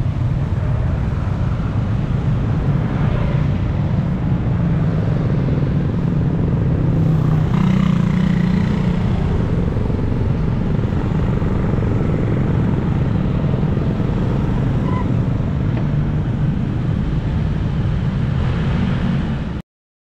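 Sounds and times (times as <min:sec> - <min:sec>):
street traffic rumble: 0:00.0 - 0:19.6.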